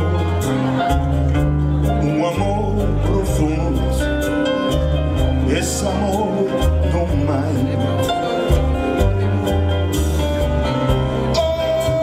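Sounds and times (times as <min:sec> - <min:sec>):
plucked guitar: 0:00.0 - 0:12.0
sustained bass notes: 0:00.0 - 0:12.0.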